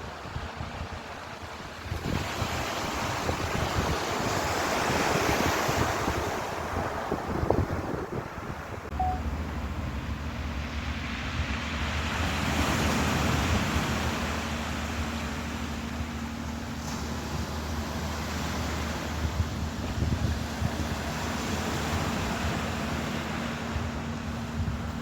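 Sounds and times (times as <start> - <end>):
ocean waves rushing: 0.0 - 25.0.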